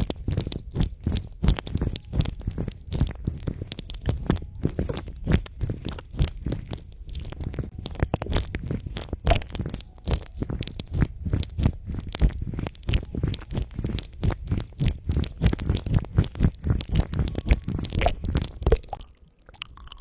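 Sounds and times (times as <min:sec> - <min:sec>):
muffled low rumble: 0:00.0 - 0:18.9
sharp clicks and crackles: 0:00.0 - 0:20.0.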